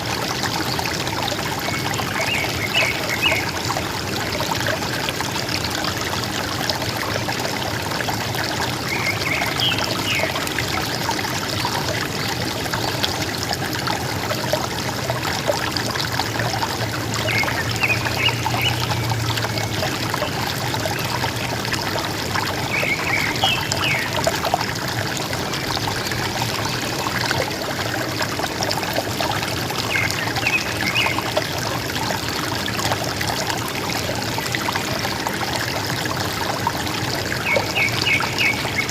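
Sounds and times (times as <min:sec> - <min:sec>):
river water gurgling: 0:00.0 - 0:38.9.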